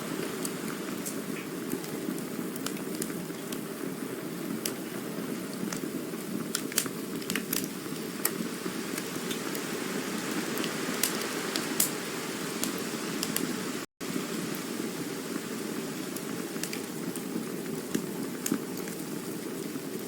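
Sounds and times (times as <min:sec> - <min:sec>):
burning wood crackling and popping: 0:00.0 - 0:20.0
campfire flames rushing: 0:00.0 - 0:20.0.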